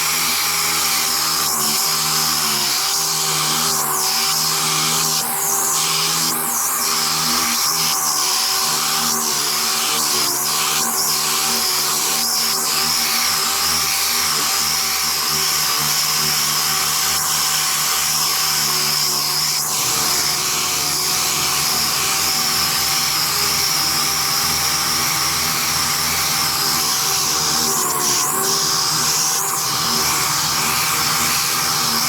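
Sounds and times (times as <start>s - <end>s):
air sander whining: 0.0s - 32.0s.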